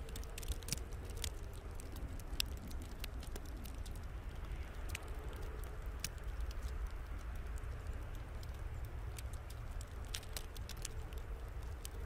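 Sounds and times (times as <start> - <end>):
ice pellets ticking on ground: 0.0 - 12.0
steady low rumble: 0.0 - 12.0.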